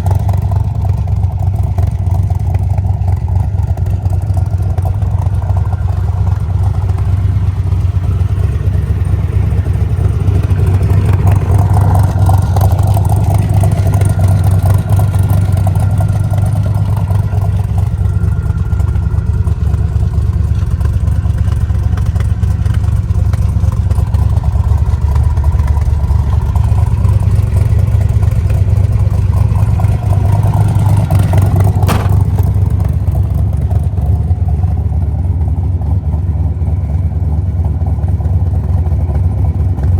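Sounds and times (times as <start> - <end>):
v eight engine running: 0.0 - 39.9.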